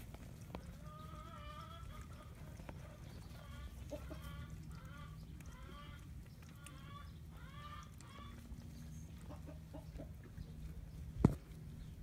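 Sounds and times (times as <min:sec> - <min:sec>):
chickens clucking: 0:00.0 - 0:12.0
low steady hum: 0:00.0 - 0:12.0.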